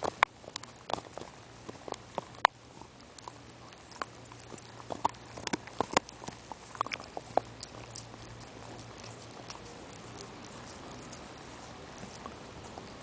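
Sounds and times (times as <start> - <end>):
dog gnawing a bone: 0.0 - 13.0.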